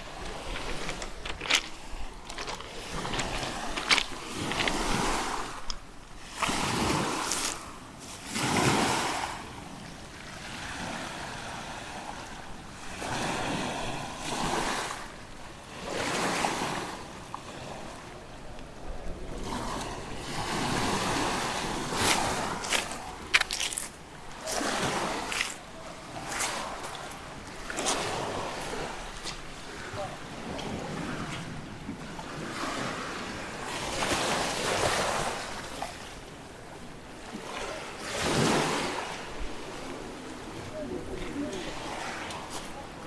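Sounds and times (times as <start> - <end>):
sea waves breaking on shore: 0.0 - 43.0.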